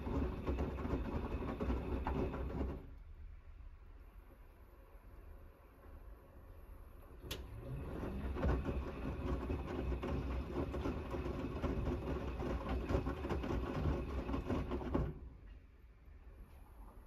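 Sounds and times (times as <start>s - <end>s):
washing machine drum whirring: 0.0s - 17.0s.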